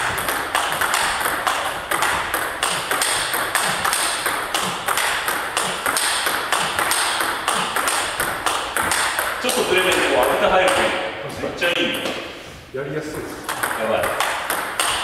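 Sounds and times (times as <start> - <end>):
ball bouncing on table: 0.0 - 11.0, 13.1 - 15.0
table tennis ball on rackets: 0.0 - 11.0, 11.8 - 12.4, 13.1 - 15.0.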